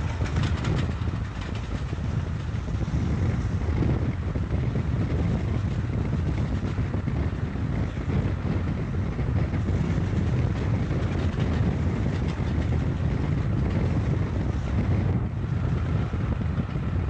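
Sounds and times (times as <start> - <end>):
car engine rumble: 0.0 - 17.0
road noise: 0.0 - 17.0
wind buffeting: 0.0 - 17.0.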